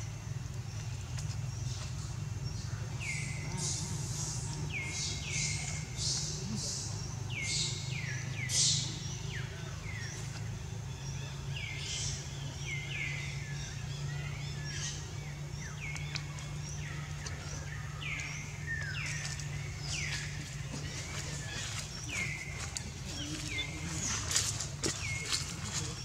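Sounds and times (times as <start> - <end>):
forest birds calling: 0.0 - 26.0
steady low hum: 0.0 - 26.0.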